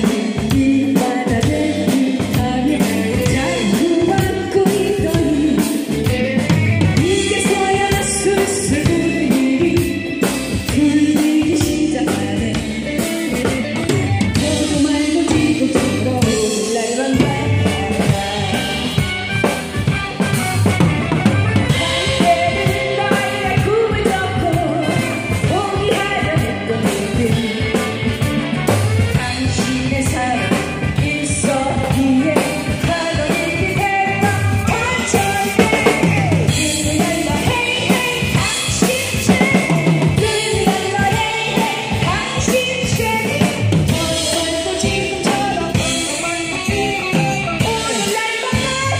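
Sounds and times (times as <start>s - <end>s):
woman singing into microphone: 0.0s - 19.5s, 21.3s - 48.9s
drum kit beat: 0.0s - 48.9s.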